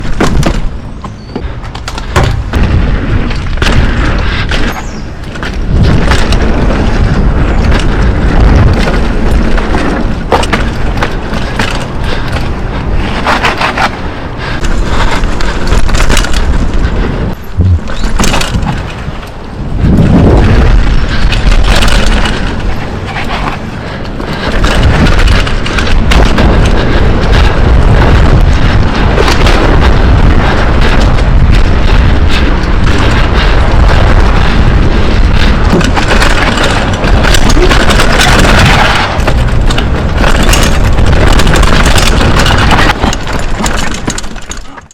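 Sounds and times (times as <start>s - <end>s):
rattles and knocks: 0.0s - 14.0s, 17.5s - 44.9s
wind buffeting microphone: 0.0s - 44.9s.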